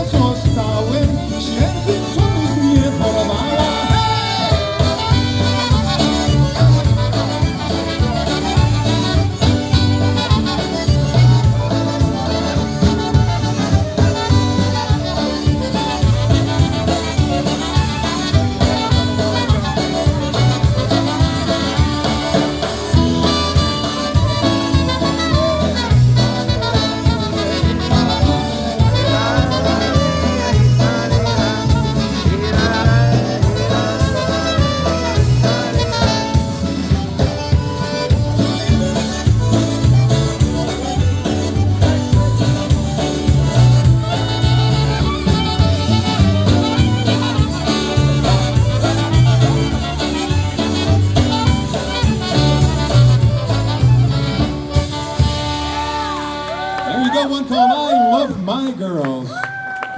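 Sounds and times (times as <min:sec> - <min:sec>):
polka band playing: 0:00.0 - 0:59.9.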